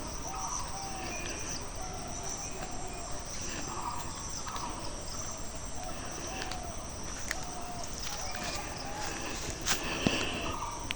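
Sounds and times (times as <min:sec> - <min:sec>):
crickets trilling: 0:00.0 - 0:10.9.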